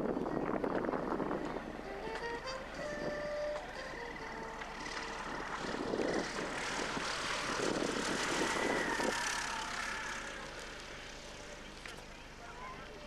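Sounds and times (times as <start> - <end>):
propeller aircraft passing by: 0.0 - 13.0.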